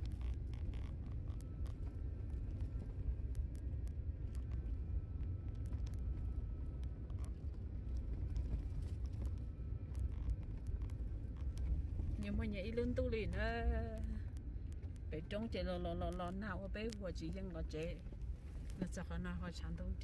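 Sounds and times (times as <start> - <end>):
gravel clicks and rattles: 0.0 - 20.0
vehicle engine and tyres rumbling: 0.0 - 20.0.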